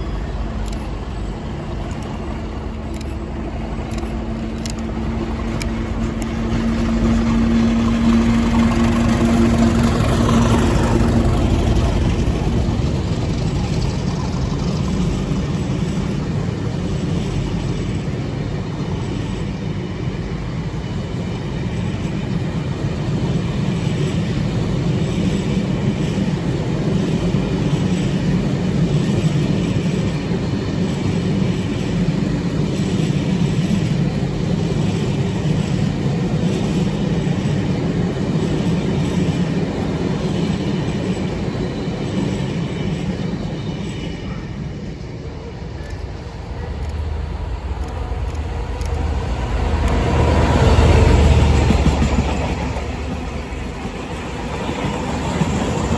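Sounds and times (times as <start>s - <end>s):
train rumbling past: 0.0s - 55.9s.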